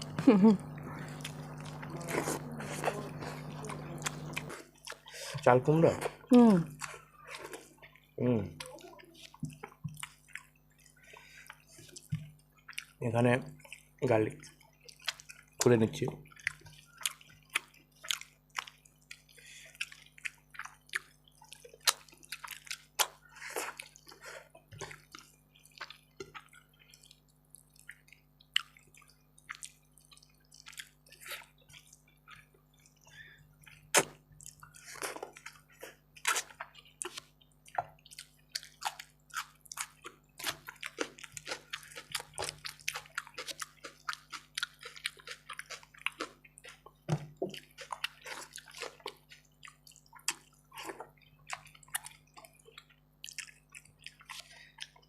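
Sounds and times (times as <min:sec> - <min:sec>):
wet chewing and lip smacks: 0:01.0 - 0:55.0.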